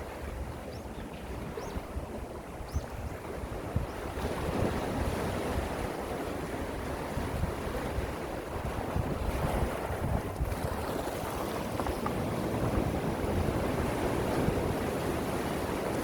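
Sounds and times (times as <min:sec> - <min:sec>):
gentle sea waves washing: 0:00.0 - 0:16.0
wind rumbling on microphone: 0:00.0 - 0:16.0.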